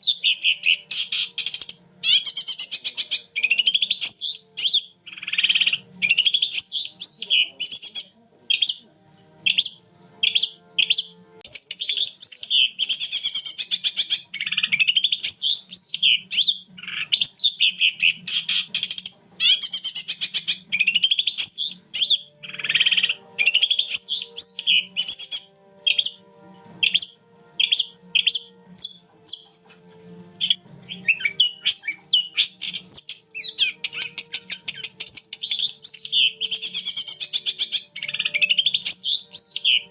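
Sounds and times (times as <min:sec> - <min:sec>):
bird singing chattering trills: 0:00.0 - 0:26.2, 0:26.8 - 0:39.9.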